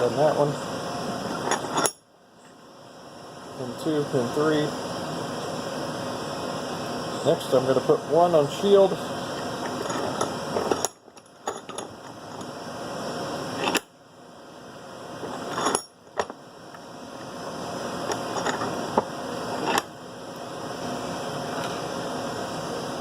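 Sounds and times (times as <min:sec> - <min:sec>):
transmitter hiss and hum: 0:00.0 - 0:23.0.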